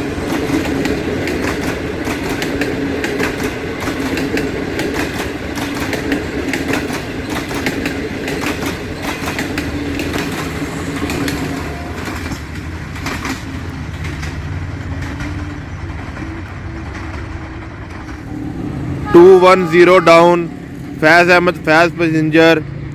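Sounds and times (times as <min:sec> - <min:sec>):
train wheels clicking on rails: 0:00.0 - 0:18.4
train low hum: 0:00.0 - 0:22.9.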